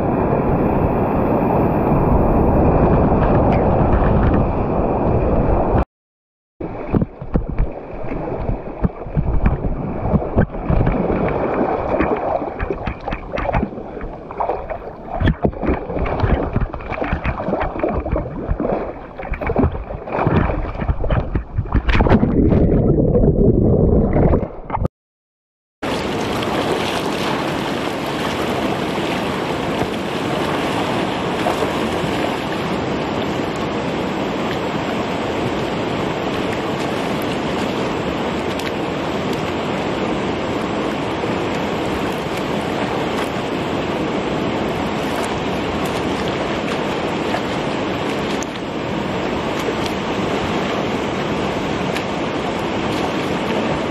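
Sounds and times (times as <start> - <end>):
steady river water rush: 6.6 - 22.1, 25.8 - 53.9
whitewater rushing and splashing: 6.7 - 22.6, 25.8 - 53.9.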